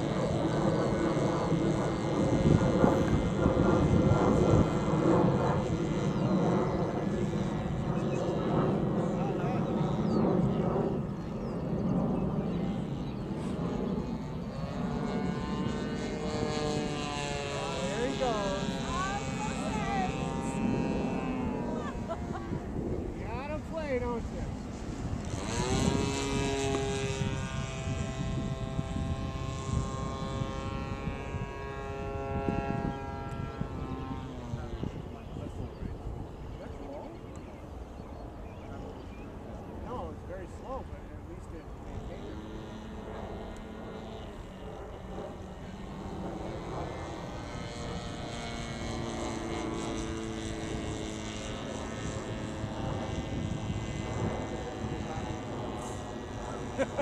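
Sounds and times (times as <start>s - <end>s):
model plane engine and propeller: 0.0s - 57.0s.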